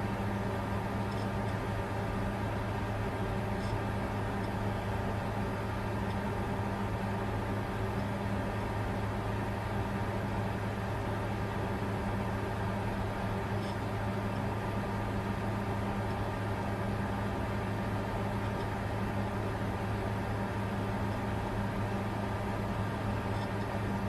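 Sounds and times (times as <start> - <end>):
cooling fans whirring: 0.0 - 24.0
low electrical hum: 0.0 - 24.0.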